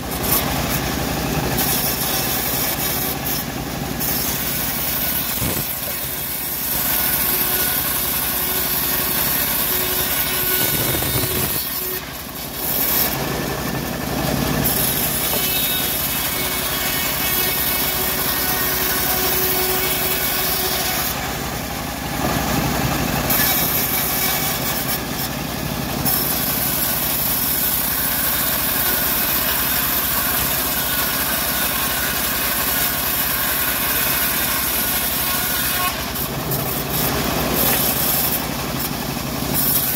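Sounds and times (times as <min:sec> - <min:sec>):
band sawmill cutting wood: 0:00.0 - 0:39.9.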